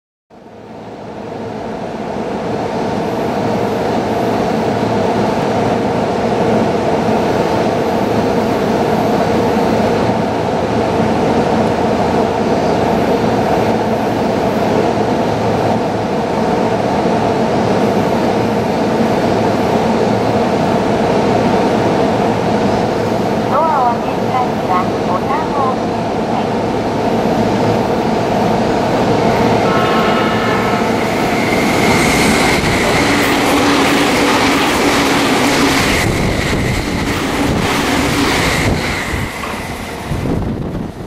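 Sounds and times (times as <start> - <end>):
electric train running hum: 0.4 - 41.0.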